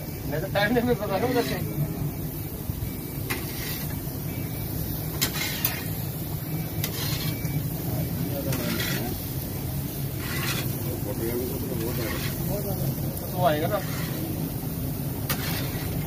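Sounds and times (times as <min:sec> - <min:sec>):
metal spatula scraping griddle: 0:00.6 - 0:01.8, 0:03.1 - 0:16.0.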